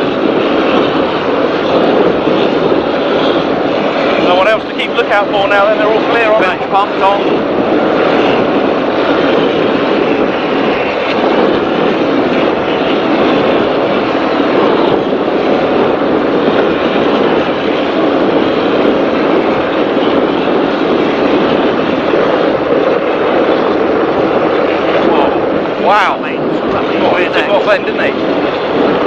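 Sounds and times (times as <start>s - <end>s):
powerboat engines with wind and water: 0.0s - 29.0s.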